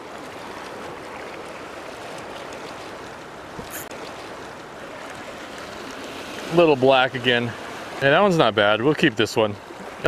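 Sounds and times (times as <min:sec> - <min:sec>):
surf washing over rocks: 0:00.0 - 0:10.0.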